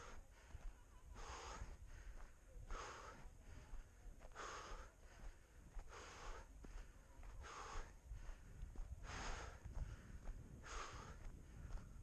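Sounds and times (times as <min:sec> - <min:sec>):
hard rhythmic breathing: 0:00.0 - 0:12.0.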